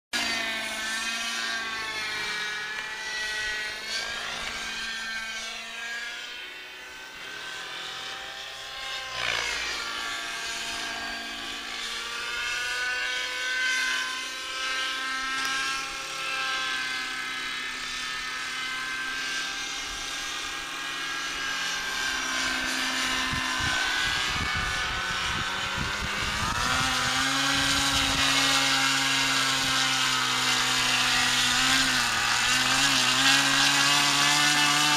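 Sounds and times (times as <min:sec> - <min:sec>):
model helicopter rotor and motor whine: 0:00.2 - 0:34.9.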